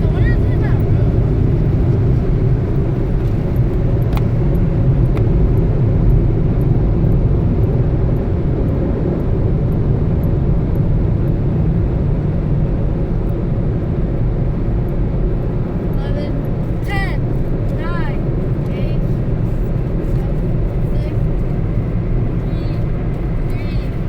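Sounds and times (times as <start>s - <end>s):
car wash machinery rumble: 0.0s - 24.0s.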